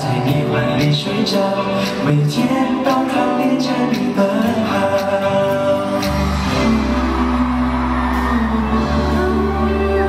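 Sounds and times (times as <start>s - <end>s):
backing track music: 0.0s - 10.0s
voices singing pop melody: 0.0s - 10.0s.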